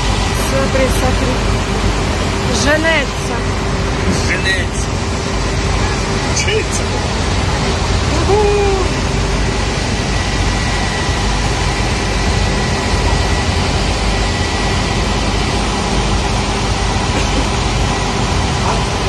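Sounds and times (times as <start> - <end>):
boat engine running: 0.0 - 19.0
rushing wind and water: 0.0 - 19.0.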